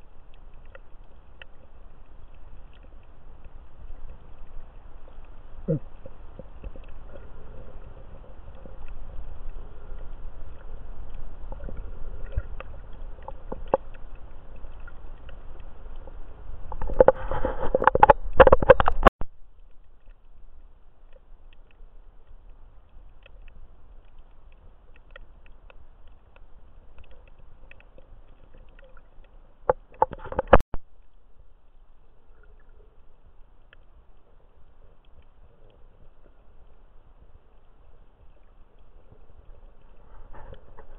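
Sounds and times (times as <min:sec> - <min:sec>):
muffled underwater rush: 0:00.0 - 0:40.9
faint clicks: 0:00.1 - 0:40.9.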